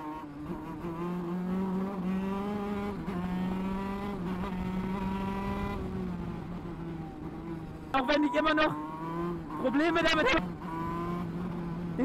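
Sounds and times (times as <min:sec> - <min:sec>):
kart engine at high revs: 0:00.0 - 0:12.0.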